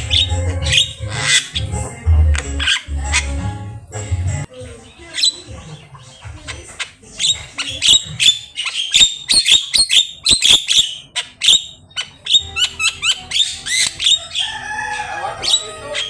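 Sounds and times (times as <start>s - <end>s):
bird singing varied song: 0.0s - 16.0s.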